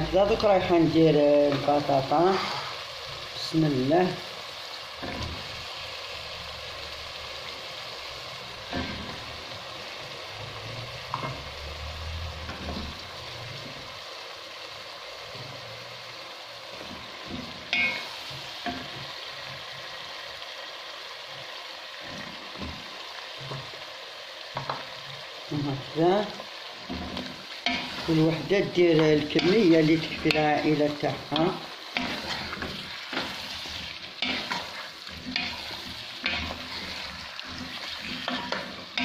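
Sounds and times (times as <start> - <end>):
sauce sizzling in a pot: 0.0 - 39.0.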